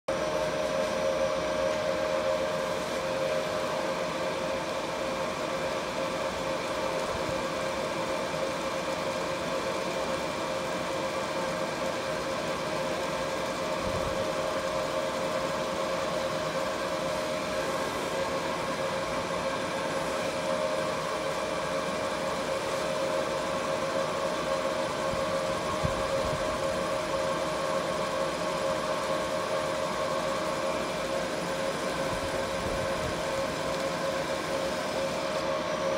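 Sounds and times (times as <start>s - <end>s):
laser marking machine humming: 0.1s - 35.9s.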